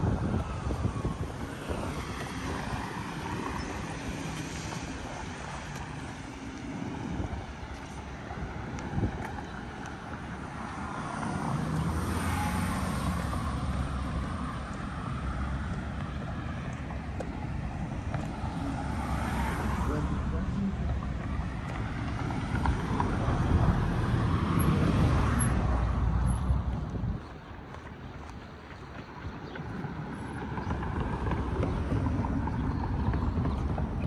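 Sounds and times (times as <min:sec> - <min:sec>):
road traffic passing: 0:00.0 - 0:34.0
wind rumble on microphone: 0:00.0 - 0:34.0.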